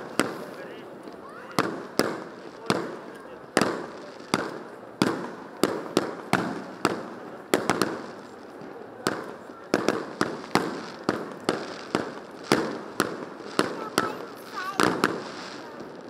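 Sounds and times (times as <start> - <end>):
fireworks bursting with echo: 0.0 - 16.0.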